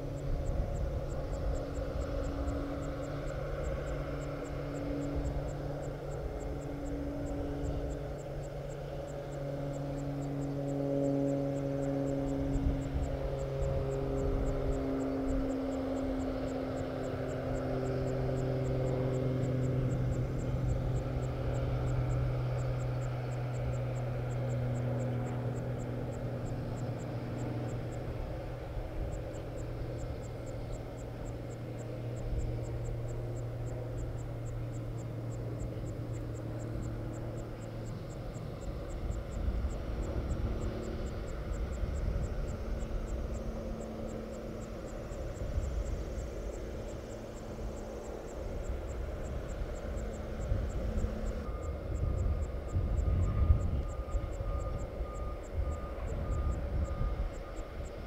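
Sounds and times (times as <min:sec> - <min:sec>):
low machinery drone: 0:00.0 - 0:58.0
steady hum tones: 0:00.0 - 0:58.0.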